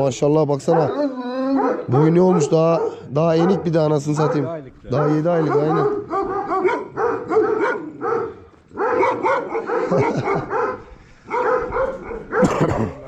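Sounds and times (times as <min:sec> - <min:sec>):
young dogs barking and yelping: 0:00.6 - 0:13.0.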